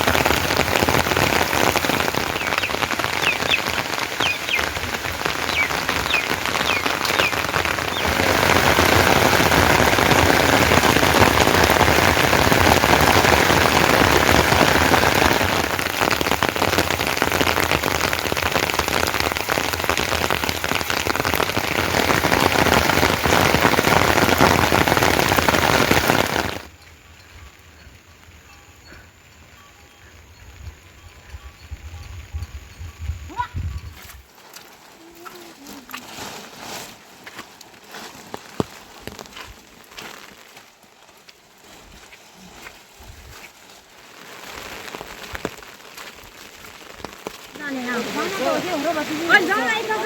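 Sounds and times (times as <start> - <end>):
heavy rain falling: 0.0 - 32.7, 34.4 - 50.0.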